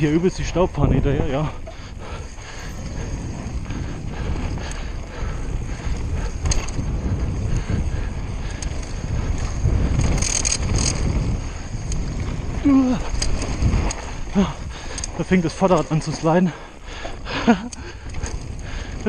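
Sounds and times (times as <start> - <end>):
bike clicking and rattling: 0.0 - 19.0
bike tyres crunching over dirt: 0.0 - 19.0
wind buffeting microphone: 0.0 - 19.0.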